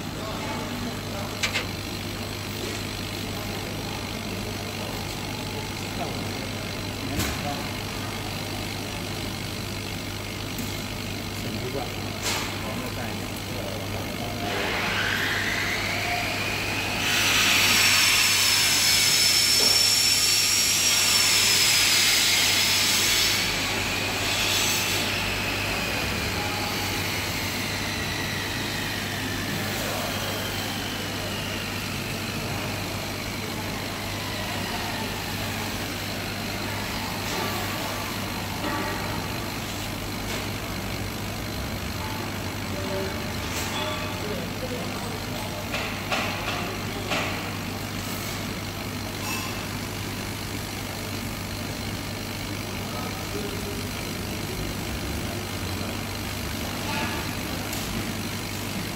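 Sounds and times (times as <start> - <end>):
laser cutter hum and hiss: 0.0 - 58.9.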